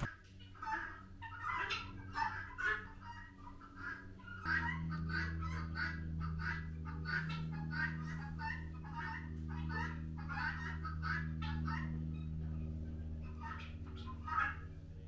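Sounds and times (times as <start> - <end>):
chickens clucking: 0.0 - 15.0
steady low hum: 0.0 - 15.0.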